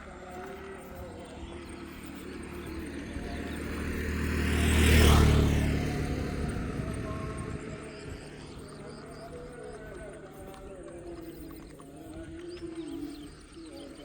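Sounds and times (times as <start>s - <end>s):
vehicle passing close by: 0.0s - 13.0s.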